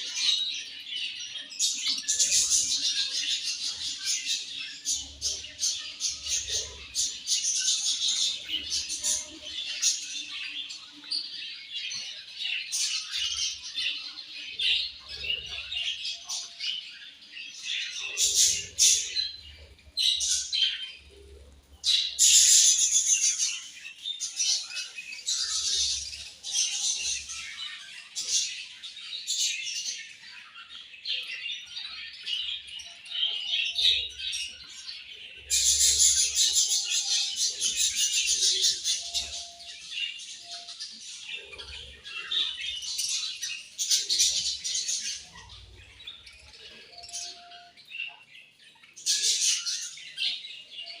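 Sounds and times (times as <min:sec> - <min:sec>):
budgerigars chirping and chattering: 0:00.0 - 0:51.0.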